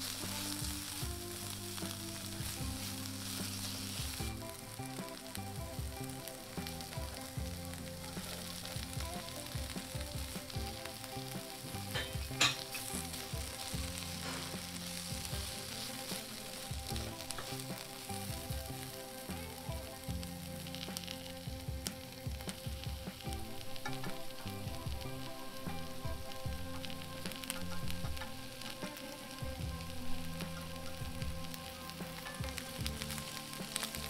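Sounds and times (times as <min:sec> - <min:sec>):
spatula stirring in a pan: 0:00.0 - 0:34.0
vegetables sizzling in hot oil: 0:00.0 - 0:34.0.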